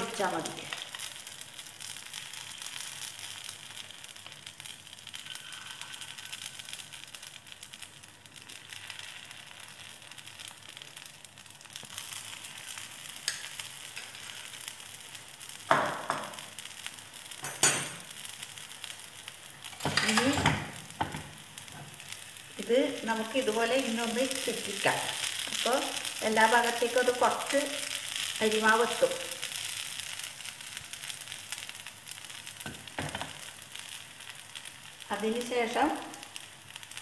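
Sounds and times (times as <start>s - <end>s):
batter sizzling in hot oil: 0.0s - 37.0s.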